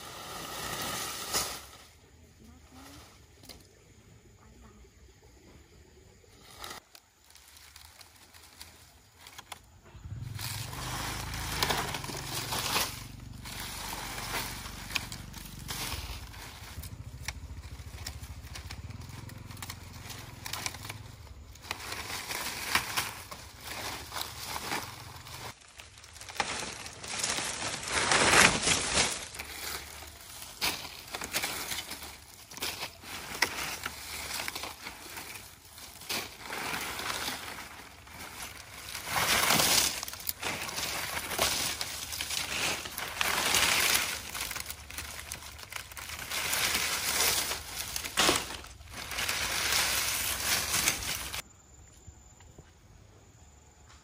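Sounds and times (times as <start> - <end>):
rustling and crunching: 5.3 - 51.5.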